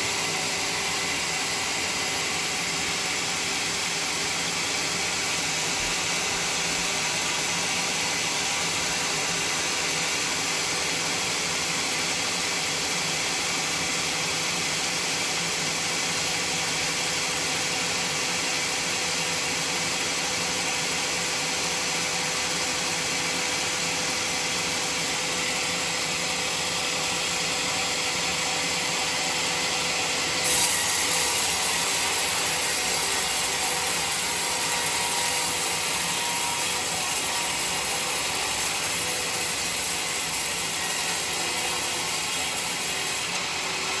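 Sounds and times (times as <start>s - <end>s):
band saw cutting log: 0.0s - 44.0s.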